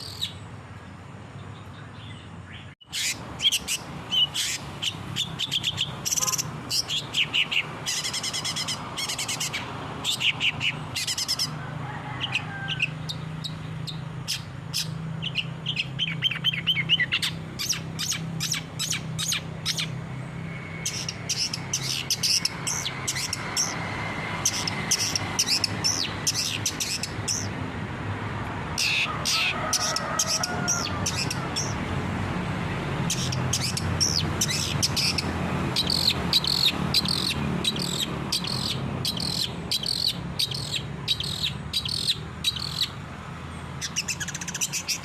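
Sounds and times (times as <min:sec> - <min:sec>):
shrike singing: 0:01.7 - 0:11.6, 0:12.2 - 0:27.6, 0:28.7 - 0:31.8, 0:33.0 - 0:43.0.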